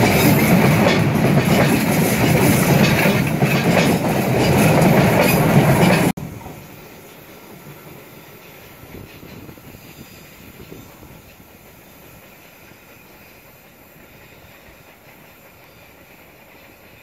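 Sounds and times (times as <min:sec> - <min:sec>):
train rumbling: 0:00.0 - 0:17.0
train wheels clattering on rails: 0:00.0 - 0:17.0.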